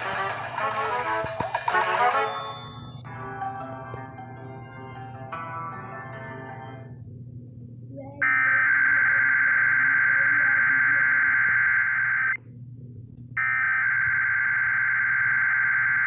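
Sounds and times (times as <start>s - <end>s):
low hum: 2.2s - 16.0s.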